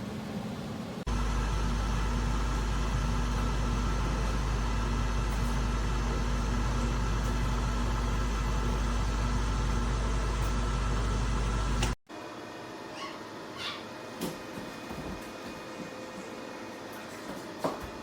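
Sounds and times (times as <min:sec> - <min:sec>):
air oven fan humming: 0:00.0 - 0:18.0.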